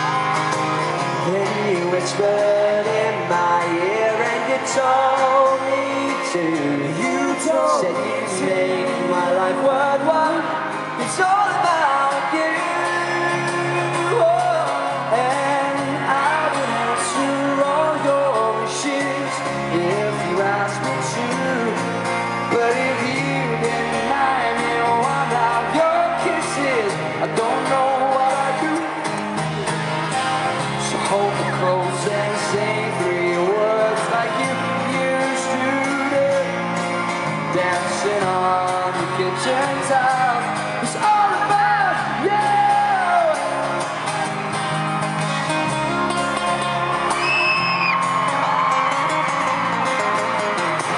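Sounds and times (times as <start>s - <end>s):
person singing: 0.0s - 29.2s, 30.6s - 44.0s
acoustic guitar: 0.0s - 50.9s
bass guitar: 0.0s - 50.9s.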